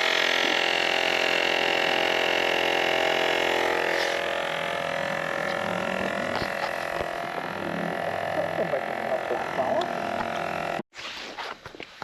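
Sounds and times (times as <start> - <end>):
small motor running: 0.0 - 10.8.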